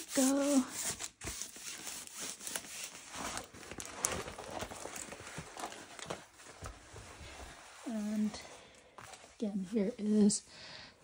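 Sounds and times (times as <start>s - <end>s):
plastic film rustling and crinkling: 0.0s - 10.3s.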